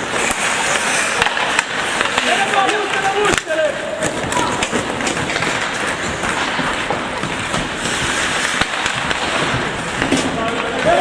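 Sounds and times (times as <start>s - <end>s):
faint knocks of sticks or puck: 0.0s - 11.0s
skates scraping on ice: 0.0s - 11.0s.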